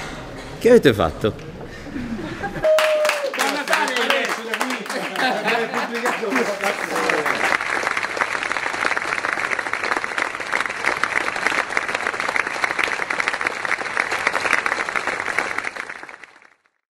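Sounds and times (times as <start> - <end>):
people clapping and applauding: 2.6 - 16.8.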